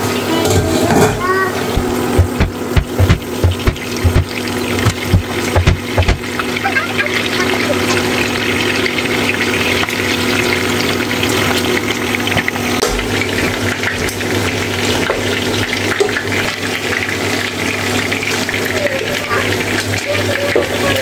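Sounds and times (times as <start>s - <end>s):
wings sizzling in hot oil: 0.0s - 21.0s.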